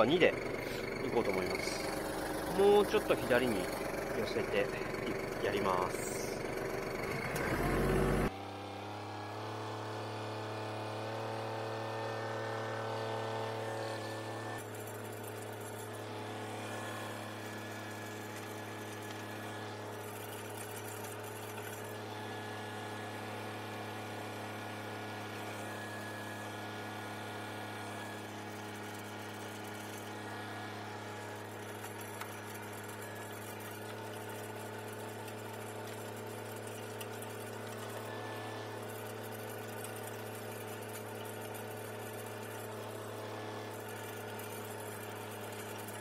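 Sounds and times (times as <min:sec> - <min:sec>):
tractor diesel engine running: 0:00.0 - 0:08.3, 0:11.2 - 0:46.0
rotary tiller tilling soil: 0:00.0 - 0:46.0.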